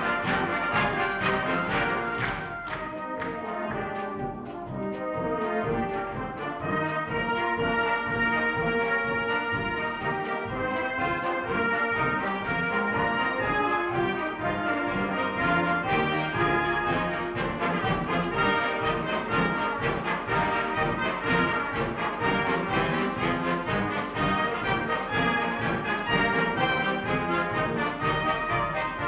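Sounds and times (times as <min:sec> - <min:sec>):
brass band playing: 0:00.0 - 0:29.0.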